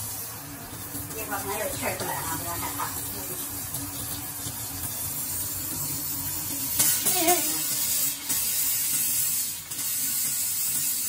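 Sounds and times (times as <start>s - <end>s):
faucet spraying water and air: 0.0s - 11.0s.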